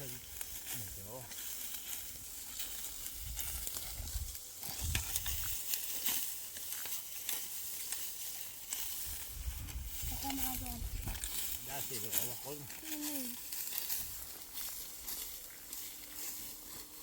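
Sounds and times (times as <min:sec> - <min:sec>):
dry stalks crackling and rustling: 0:00.0 - 0:17.0.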